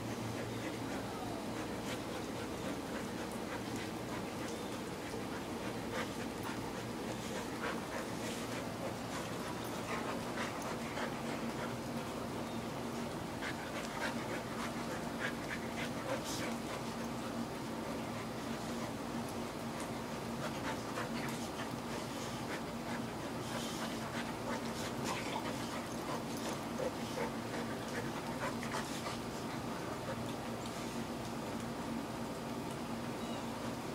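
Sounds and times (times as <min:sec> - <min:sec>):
dogs panting: 0:00.0 - 0:31.8
steady low hum: 0:00.0 - 0:33.9
dogs scuffling on carpet: 0:00.1 - 0:32.9.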